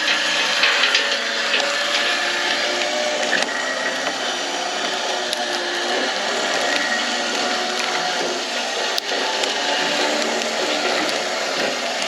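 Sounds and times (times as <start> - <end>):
crawler tractor engine running: 0.0 - 12.0.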